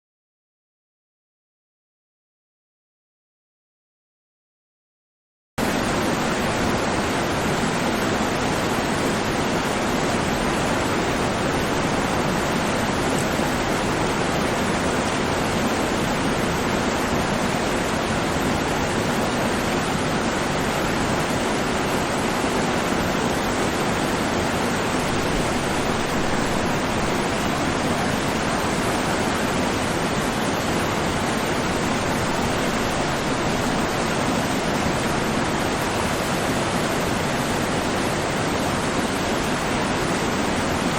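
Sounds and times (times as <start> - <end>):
steady rushing noise: 5.6 - 40.9.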